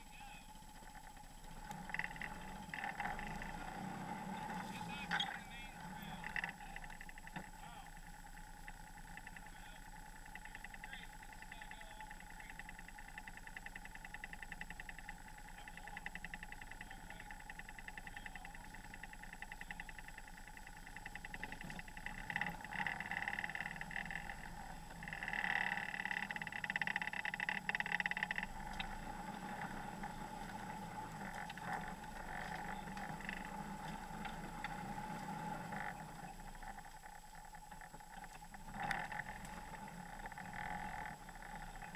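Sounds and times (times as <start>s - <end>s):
vehicle engine running at low speed: 0.0s - 41.9s.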